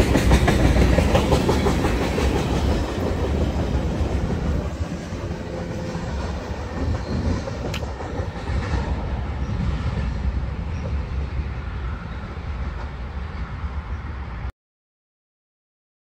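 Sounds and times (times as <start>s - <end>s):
freight train rumbling on rails: 0.0s - 14.5s.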